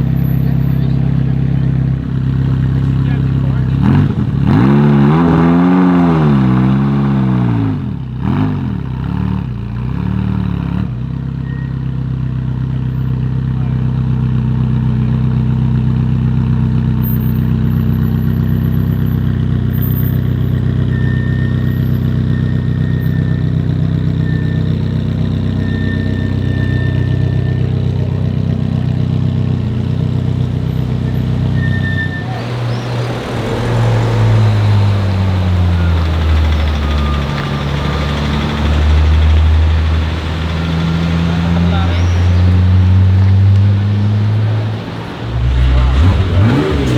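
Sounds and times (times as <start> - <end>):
sports car engine revving and idling: 0.0 - 46.9.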